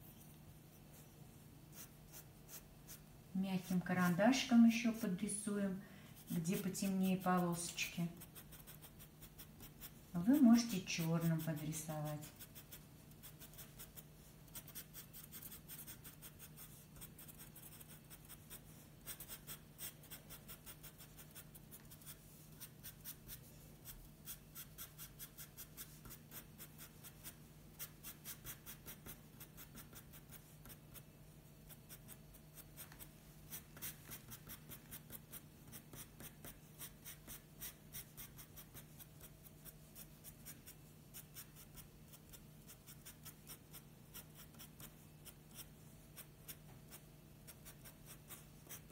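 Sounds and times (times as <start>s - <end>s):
pencil scratching on paper: 1.7s - 5.1s, 6.2s - 48.9s.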